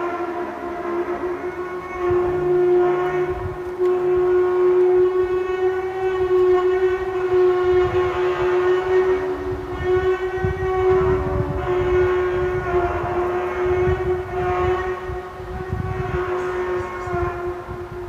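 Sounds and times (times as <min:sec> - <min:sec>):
horn-like drone: 0:00.0 - 0:18.0.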